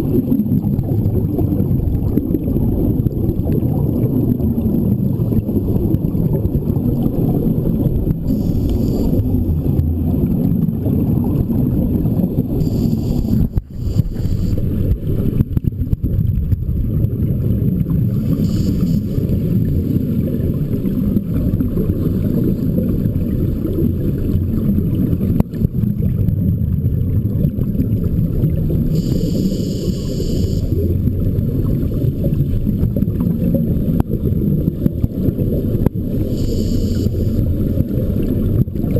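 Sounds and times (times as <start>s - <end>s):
hissing bubble bursts: 0.0s - 16.1s, 16.7s - 24.6s, 26.9s - 34.3s, 34.9s - 38.9s
low underwater rumble: 0.0s - 38.9s.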